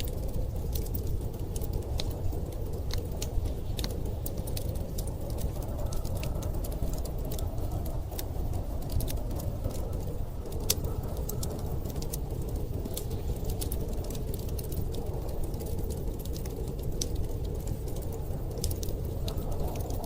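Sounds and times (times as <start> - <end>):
blizzard wind rushing: 0.0 - 20.0
wood fire crackling: 0.0 - 20.0.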